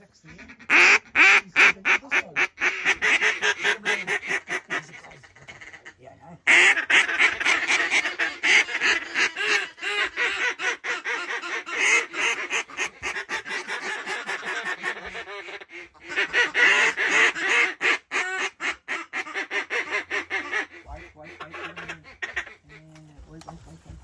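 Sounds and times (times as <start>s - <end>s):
duck calls quacking: 0.0s - 23.4s.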